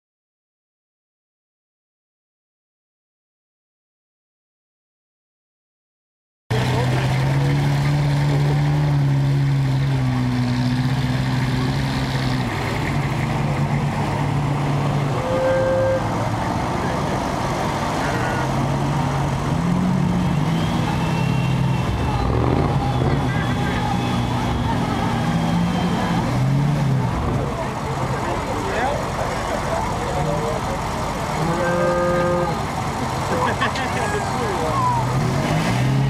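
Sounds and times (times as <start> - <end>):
engine running at low speed: 6.5 - 36.0.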